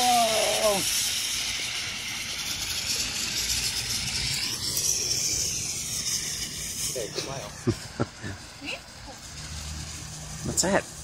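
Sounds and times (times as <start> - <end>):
fountain firework hissing: 0.0 - 11.0.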